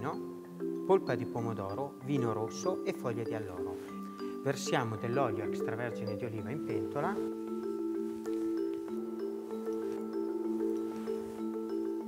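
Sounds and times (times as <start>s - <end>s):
light background tune: 0.0s - 12.0s.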